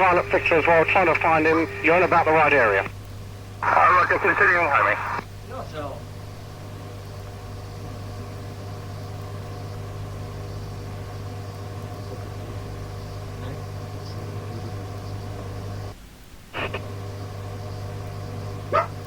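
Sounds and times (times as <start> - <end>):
steady radio tones: 0.0 - 3.0, 3.6 - 5.3, 6.5 - 19.0
radio static hum and hiss: 0.0 - 19.0.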